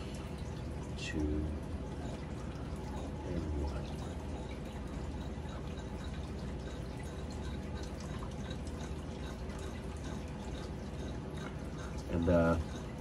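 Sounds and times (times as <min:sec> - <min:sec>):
dripping trickling water: 0:00.0 - 0:13.0.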